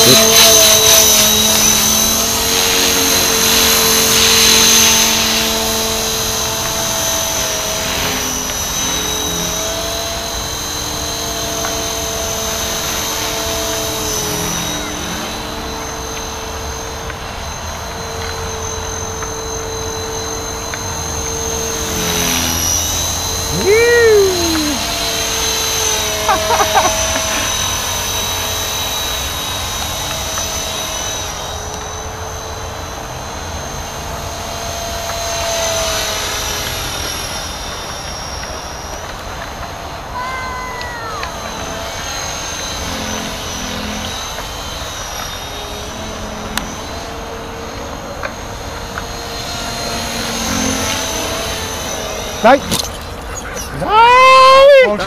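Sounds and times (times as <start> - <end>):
rc helicopter motor whine: 0.0 - 55.0.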